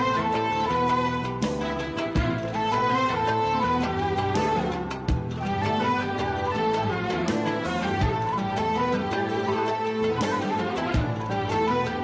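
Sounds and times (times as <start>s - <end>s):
sustained bass accompaniment: 0.0s - 12.0s.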